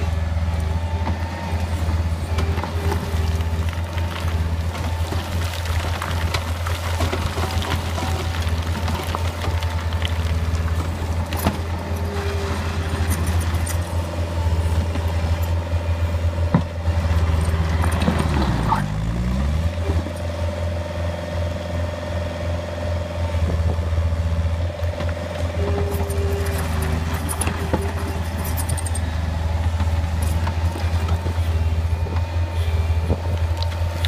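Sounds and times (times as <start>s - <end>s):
track loader diesel engine running: 0.0s - 34.0s.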